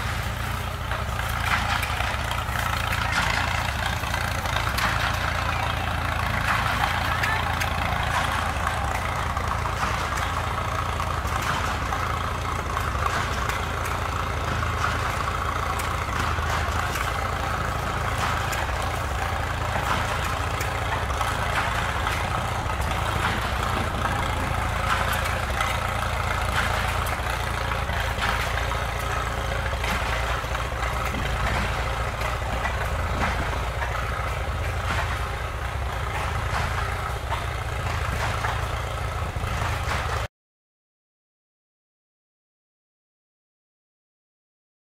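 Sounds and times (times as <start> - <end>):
engine idling: 0.0 - 40.3.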